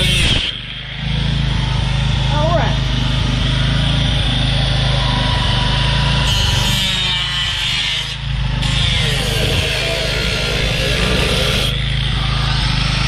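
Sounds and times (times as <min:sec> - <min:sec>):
power tool cutting sheet metal: 0:00.0 - 0:01.5, 0:03.0 - 0:13.0.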